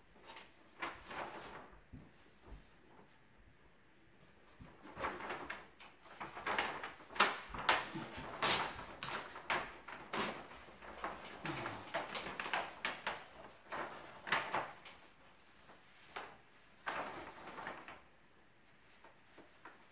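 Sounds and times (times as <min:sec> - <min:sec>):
wallpaper rustling and rubbing: 0:00.0 - 0:19.9.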